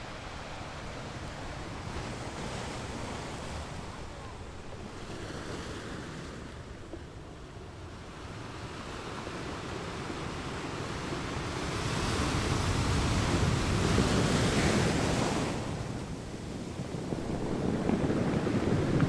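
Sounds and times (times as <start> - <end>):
choppy sea water rushing: 0.0 - 19.0
wind against microphone: 0.0 - 19.0.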